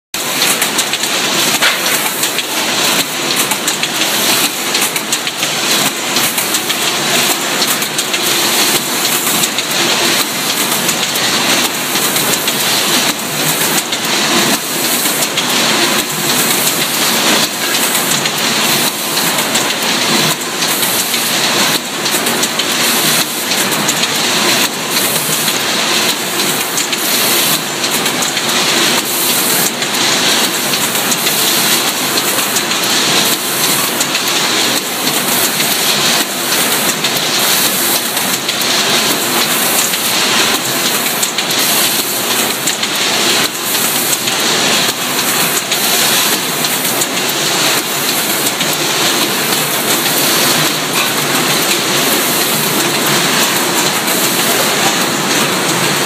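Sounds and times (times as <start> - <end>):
welding machine crackling: 0.2 - 56.0.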